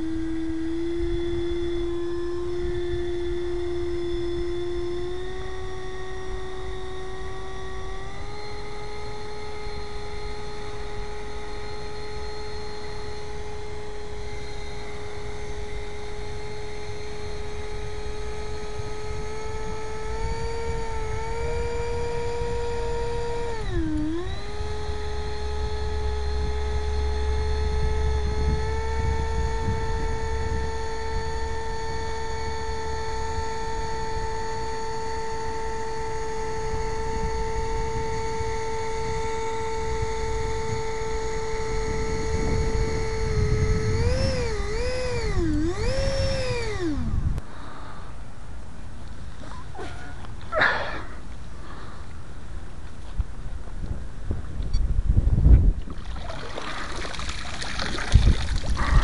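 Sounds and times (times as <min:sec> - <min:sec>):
model plane motor whining: 0:00.0 - 0:47.9, 0:54.5 - 0:59.0.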